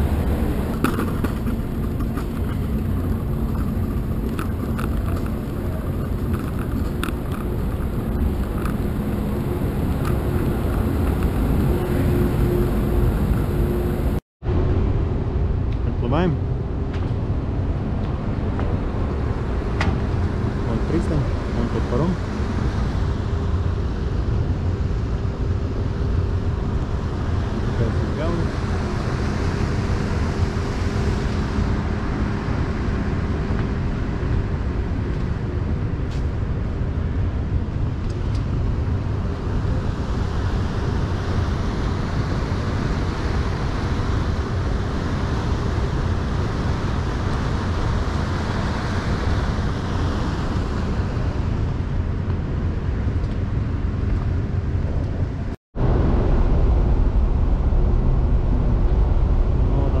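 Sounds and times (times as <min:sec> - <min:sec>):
moving vehicle rumble and engine hum: 0:00.0 - 1:00.0.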